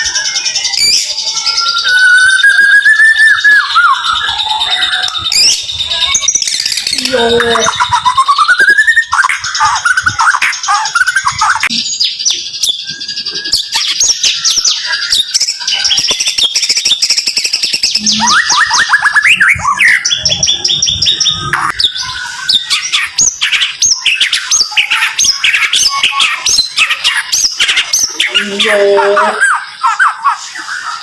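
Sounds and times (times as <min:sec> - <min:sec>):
songbird singing rapid whistles: 0:00.0 - 0:28.8.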